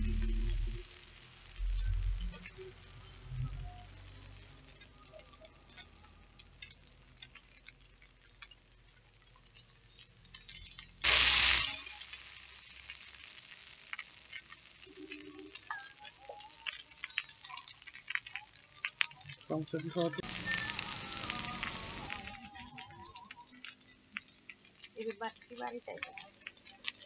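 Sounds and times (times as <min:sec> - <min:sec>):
oil sizzling: 0:00.0 - 0:27.0.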